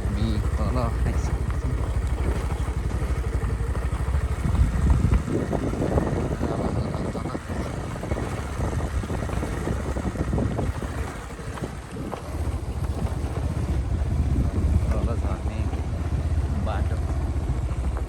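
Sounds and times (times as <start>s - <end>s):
vehicle engine throbbing: 0.0s - 18.0s.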